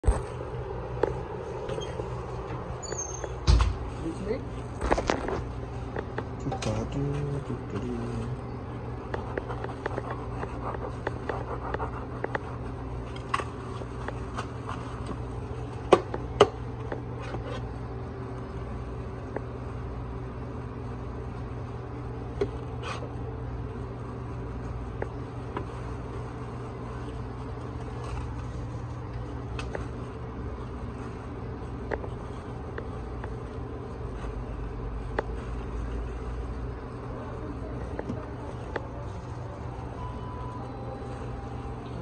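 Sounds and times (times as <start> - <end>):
kitchen equipment hum: 0.0 - 42.0.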